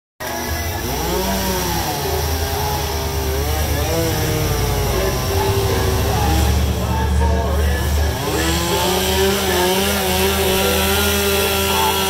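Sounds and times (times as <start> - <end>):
power carving tool cutting wood: 0.2 - 12.0.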